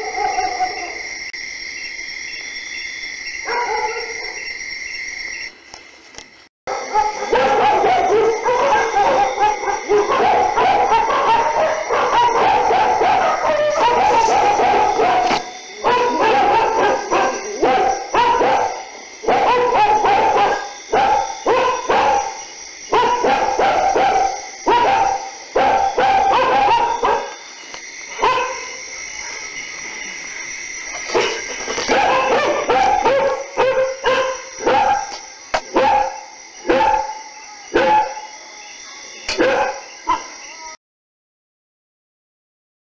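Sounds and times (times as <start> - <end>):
dogs barking: 0.0 - 1.1, 3.4 - 4.5, 6.7 - 30.2, 30.8 - 38.6, 39.2 - 40.5.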